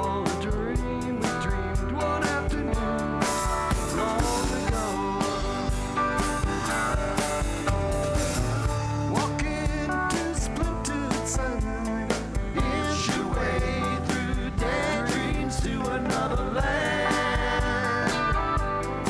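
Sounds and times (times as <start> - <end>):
person singing: 0.0 - 7.7, 9.0 - 19.0
drum kit beat: 0.0 - 19.0
guitars and bass: 0.0 - 19.0.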